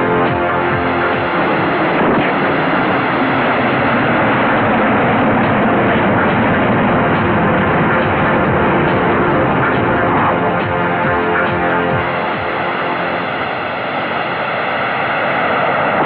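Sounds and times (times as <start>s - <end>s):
loud rushing noise: 0.0s - 16.0s.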